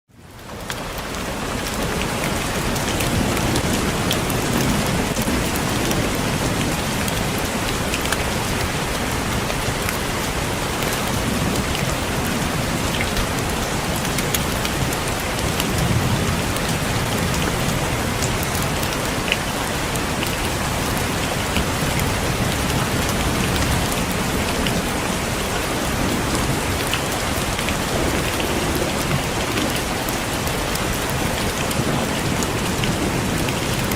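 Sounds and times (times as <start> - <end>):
heavy rain on a roof: 0.1 - 33.9.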